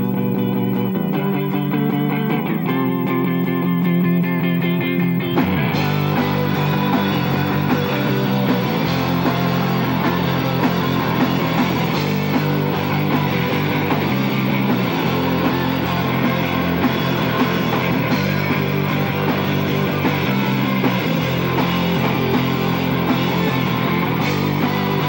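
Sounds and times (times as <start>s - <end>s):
drum kit beat: 0.0s - 25.0s
electric guitars strummed hard: 0.0s - 25.0s.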